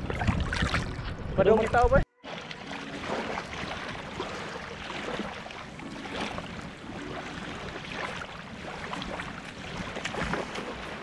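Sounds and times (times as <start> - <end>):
small wave splashes: 2.2 - 11.0
small waves lapping on shore: 2.2 - 11.0.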